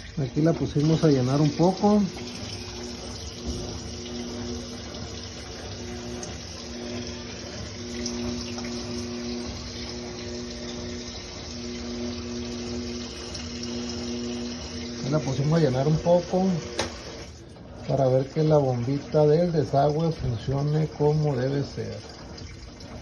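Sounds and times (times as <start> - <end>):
low electrical hum: 0.0 - 23.0
water running into washing machine: 0.0 - 23.0.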